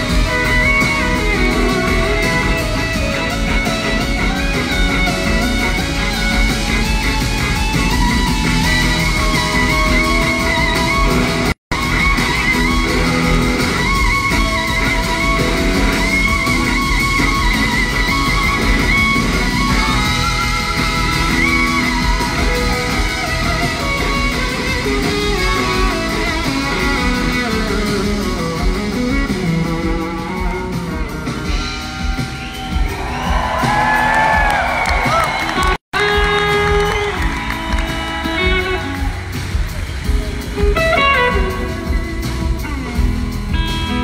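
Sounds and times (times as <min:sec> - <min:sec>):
electric slide guitar solo: 0:00.0 - 0:32.2, 0:34.7 - 0:44.0
live rock band: 0:00.0 - 0:44.0.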